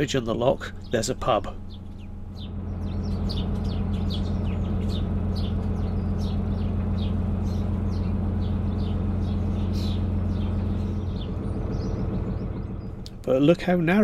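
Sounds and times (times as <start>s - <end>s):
birds chirping: 0.0s - 14.0s
boat engine droning: 0.0s - 14.0s.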